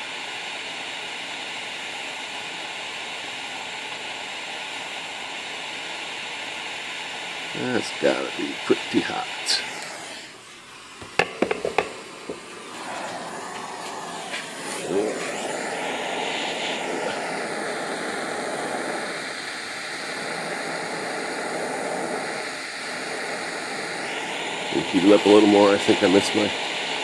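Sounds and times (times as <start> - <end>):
gas torch flame hissing: 0.0 - 27.0.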